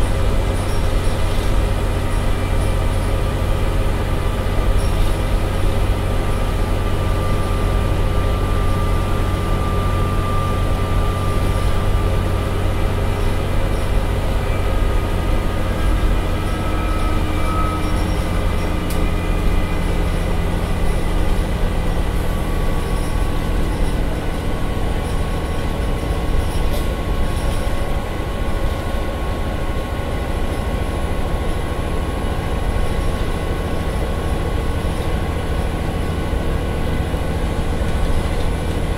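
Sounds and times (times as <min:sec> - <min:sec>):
bus diesel engine rumbling: 0:00.0 - 0:38.9
faint engine whine: 0:00.0 - 0:38.9.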